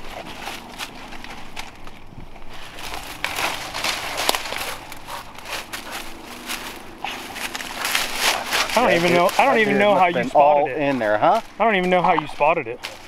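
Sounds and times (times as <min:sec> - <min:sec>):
dry fronds and grass rustling: 0:00.0 - 0:13.0.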